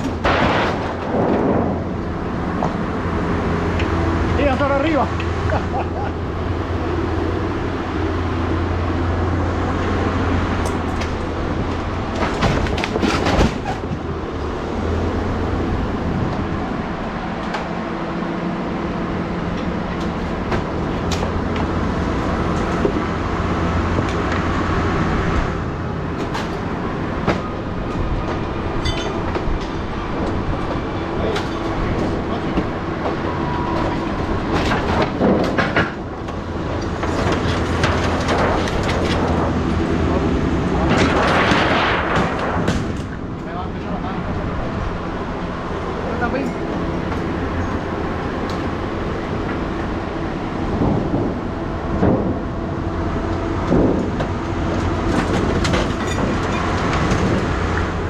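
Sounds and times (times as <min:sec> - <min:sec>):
heavy engine running: 0:00.0 - 0:58.0.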